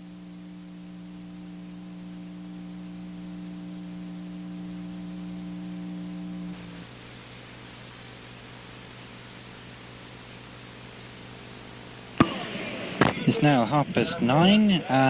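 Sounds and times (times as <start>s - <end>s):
faint low hum: 0.0s - 15.0s
steady hum: 0.0s - 15.0s.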